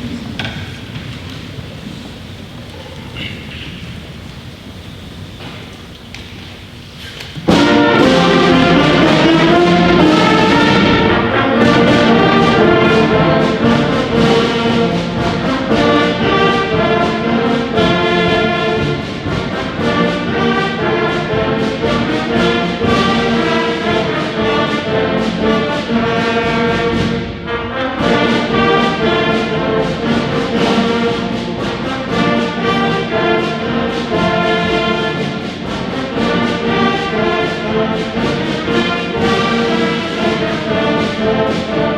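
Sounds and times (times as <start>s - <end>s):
school band playing: 0.0s - 41.9s
trombones and trumpets: 7.0s - 41.9s.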